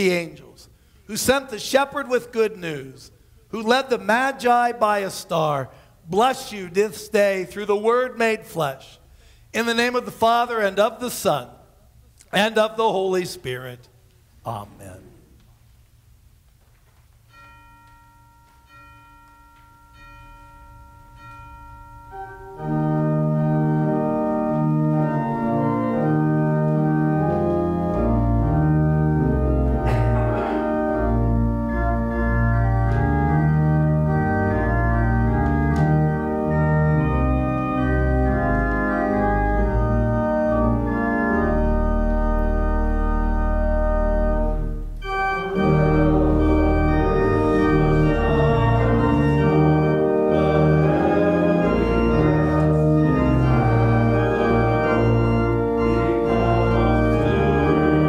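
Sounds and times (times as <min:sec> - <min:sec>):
church organ playing chords: 0:00.0 - 0:11.4, 0:17.3 - 0:58.0.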